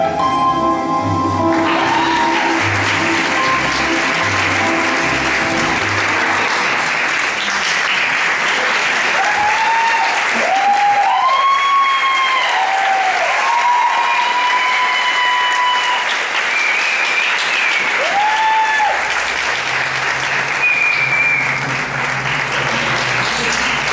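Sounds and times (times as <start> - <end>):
audience clapping: 1.5 - 23.9.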